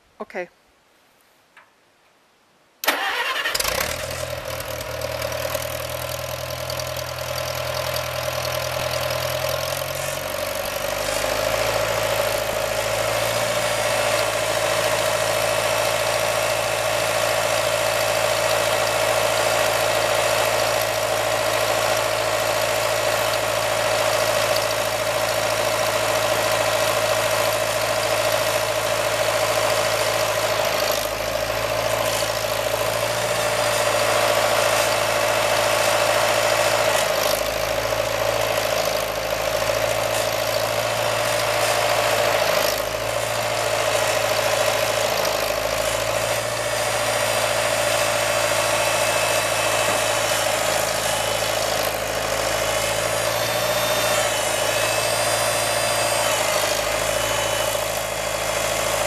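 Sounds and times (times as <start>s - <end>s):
tractor engine starting and idling: 2.8s - 59.0s.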